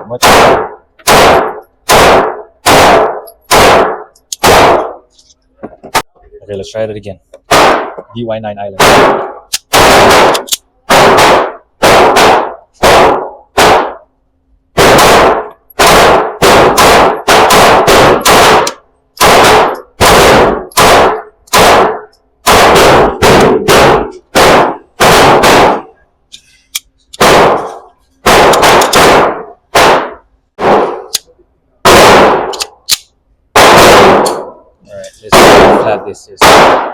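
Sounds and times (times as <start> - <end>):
pistol gunshots: 0.0 - 5.0, 7.4 - 8.0, 8.8 - 14.0, 14.7 - 26.0, 27.2 - 31.2, 31.8 - 32.9, 33.5 - 34.6, 35.3 - 36.9.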